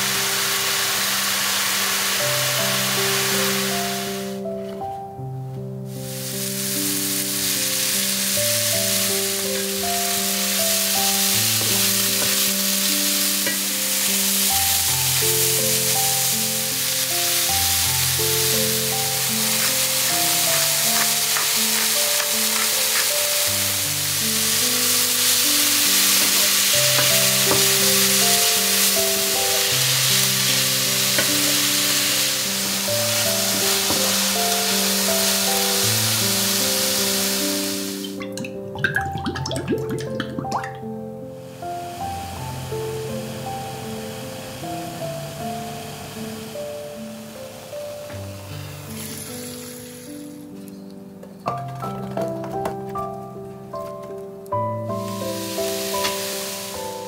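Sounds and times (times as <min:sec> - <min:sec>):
onions and mushrooms sizzling: 0:00.0 - 0:50.8, 0:51.4 - 0:57.0
slow background music: 0:00.0 - 0:57.0.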